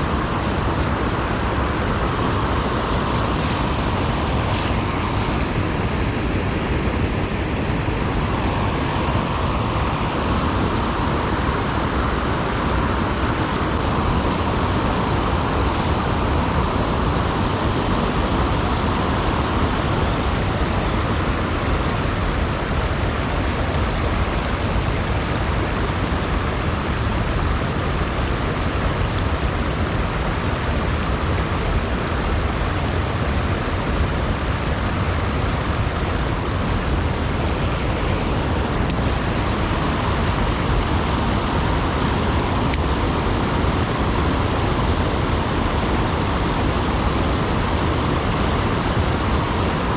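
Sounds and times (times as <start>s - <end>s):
creek running water: 0.0s - 49.9s.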